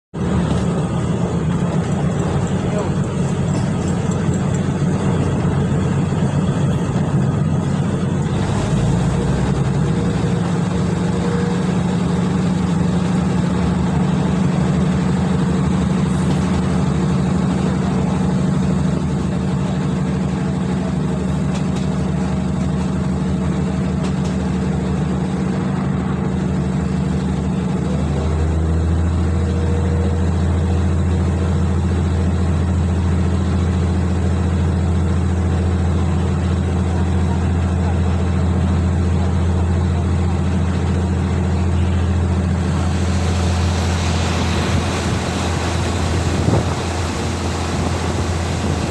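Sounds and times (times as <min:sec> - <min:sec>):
vehicle engine drone: 0:00.0 - 0:48.9.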